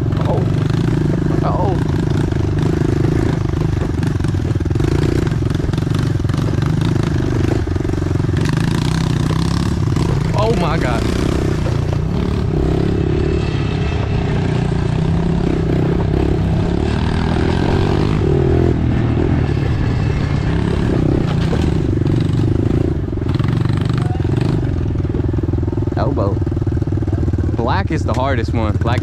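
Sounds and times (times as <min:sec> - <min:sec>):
bikes rattling over rough ground: 0:00.0 - 0:29.0
motorbike engines revving: 0:00.0 - 0:29.0.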